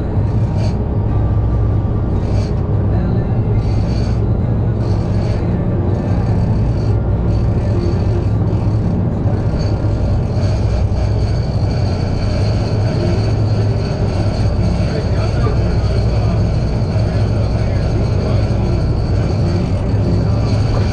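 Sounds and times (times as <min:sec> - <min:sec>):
boat engine drone: 0:00.0 - 0:20.9.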